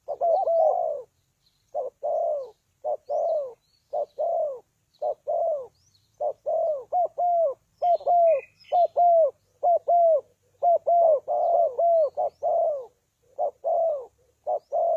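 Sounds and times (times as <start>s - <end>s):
doves cooing: 0.0s - 14.9s
small birds chirping: 0.0s - 14.9s.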